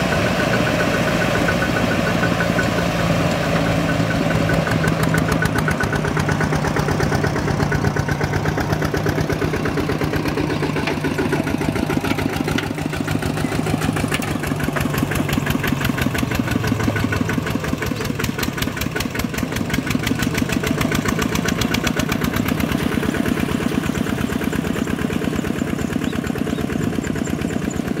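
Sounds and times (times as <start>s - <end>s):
tractor diesel engine chugging: 0.0s - 28.0s.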